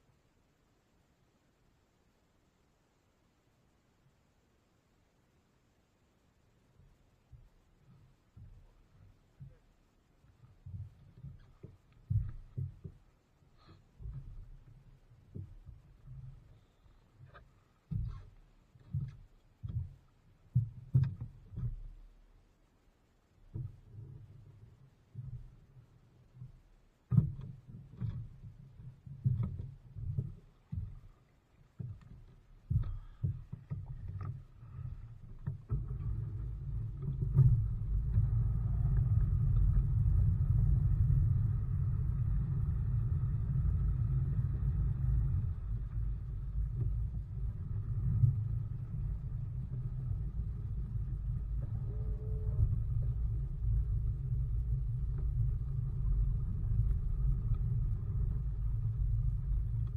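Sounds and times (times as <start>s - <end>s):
faint whine: 0.0s - 59.9s
boat engine rumble: 6.8s - 59.9s
low bumps and knocks: 8.2s - 22.2s, 23.5s - 59.9s.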